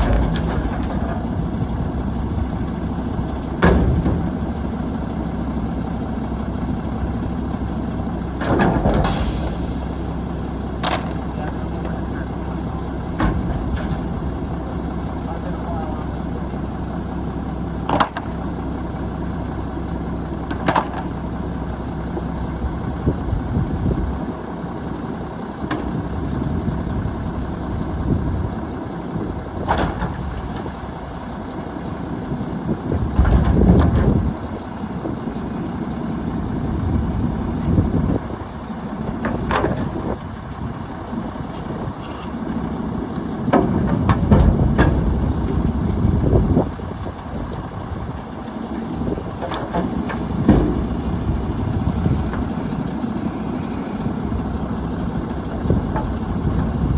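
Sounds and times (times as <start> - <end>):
garbage truck diesel engine: 0.0 - 56.9.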